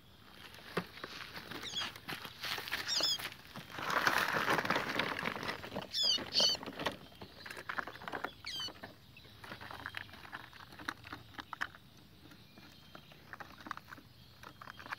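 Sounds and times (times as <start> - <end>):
small songbirds chirping: 0.0 - 14.9
rustling and light pattering: 0.3 - 14.9.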